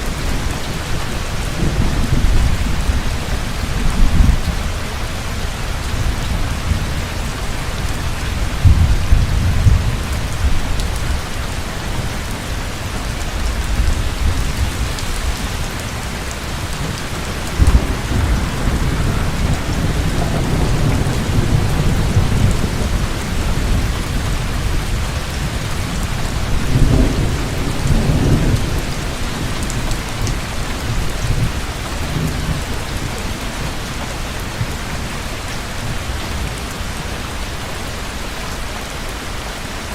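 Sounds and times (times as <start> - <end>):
thunder rumbling: 0.0 - 37.0
heavy rain: 0.0 - 39.9.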